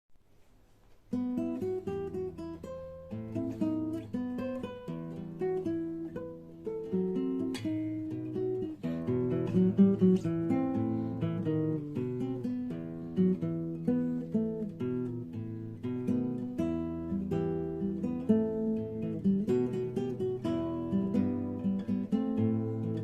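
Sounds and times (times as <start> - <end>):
acoustic guitar strumming: 1.2 - 23.0.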